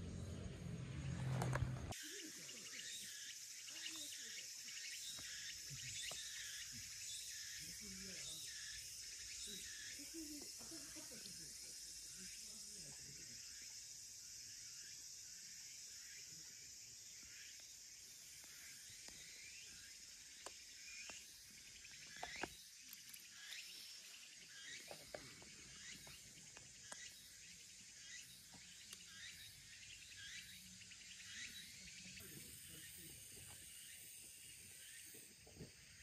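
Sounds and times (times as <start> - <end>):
birds chirping: 0.0 - 36.0
insects buzzing: 0.0 - 36.0.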